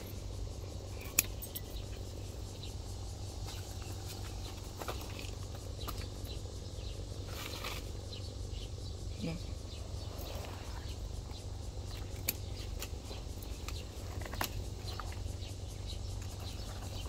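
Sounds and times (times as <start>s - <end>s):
steady low rumble: 0.0s - 17.0s
vines and leaves rustling: 0.0s - 17.0s.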